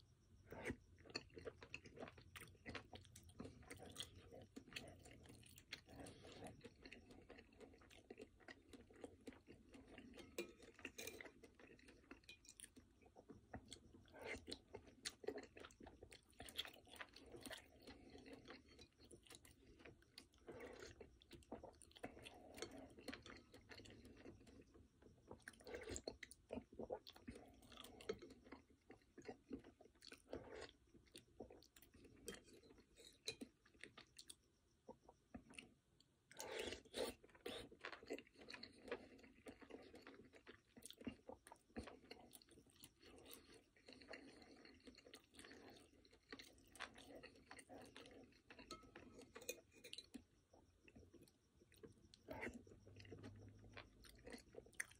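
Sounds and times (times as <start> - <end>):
close chewing with wet mouth clicks: 0.2 - 54.9.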